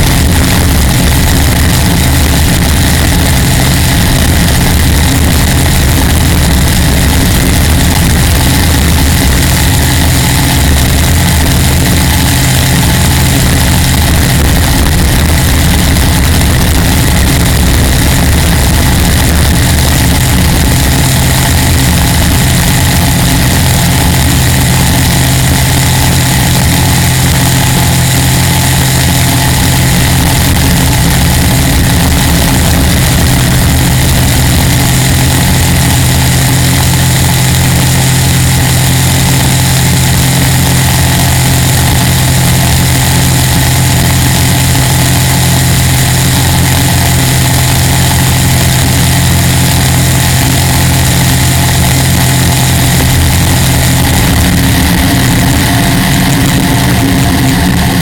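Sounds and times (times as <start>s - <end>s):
car engine running loud: 0.0s - 58.0s.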